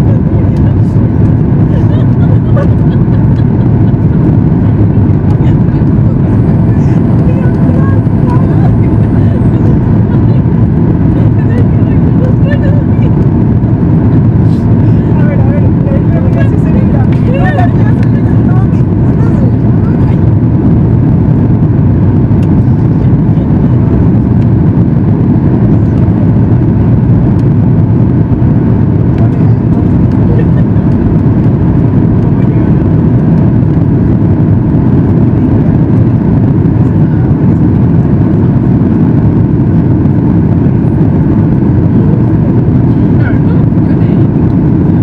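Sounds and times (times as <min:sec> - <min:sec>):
airflow around fuselage: 0:00.0 - 0:45.0
airplane cabin engine rumble: 0:00.0 - 0:45.0.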